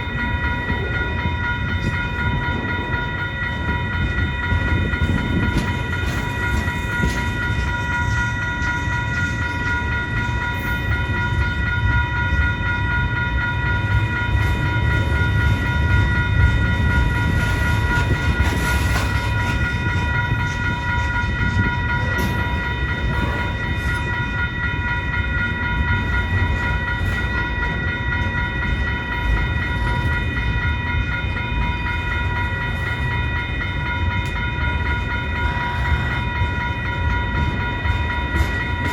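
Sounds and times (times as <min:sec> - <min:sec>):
freight train cars rumbling: 0:00.0 - 0:38.9
steady high-pitched tone: 0:00.0 - 0:38.9.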